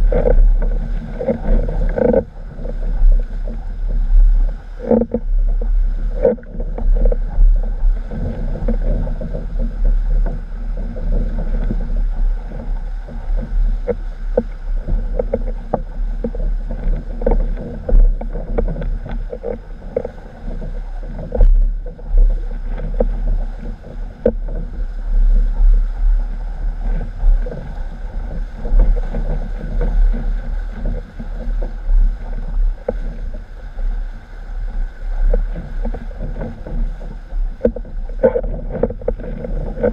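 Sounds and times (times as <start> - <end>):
knocks from waves: 0.0 - 33.9, 34.6 - 39.9
water rushing against board: 0.0 - 39.9
wind buffeting microphone: 0.0 - 39.9.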